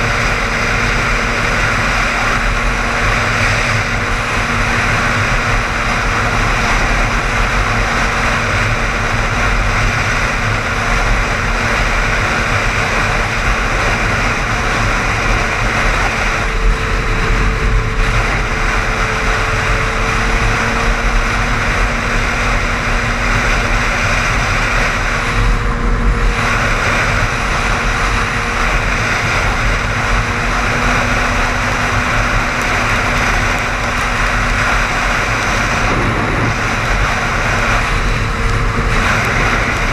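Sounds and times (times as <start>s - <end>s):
car road noise at highway speed: 0.0s - 39.9s.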